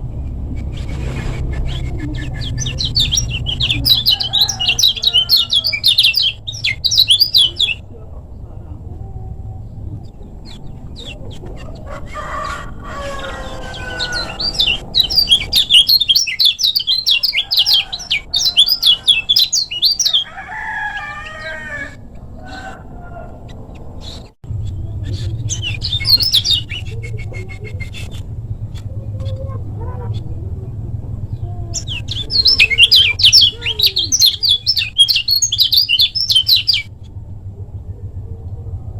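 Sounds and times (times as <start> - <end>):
songbird chattering song: 0.6 - 38.6
lower-pitched bird calls: 0.9 - 8.0, 10.0 - 30.4, 31.3 - 37.2.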